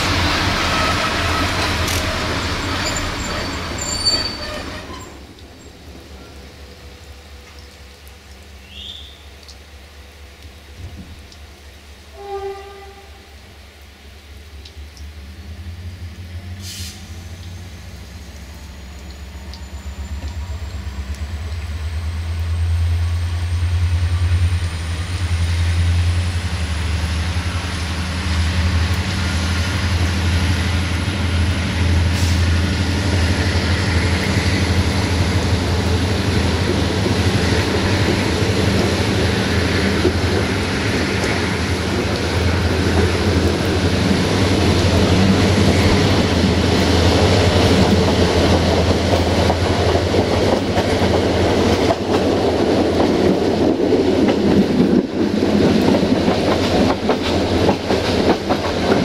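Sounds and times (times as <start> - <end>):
train wheels on rails: 0.0 - 7.6, 16.4 - 59.0
train engine drone: 0.0 - 12.2, 13.0 - 59.0.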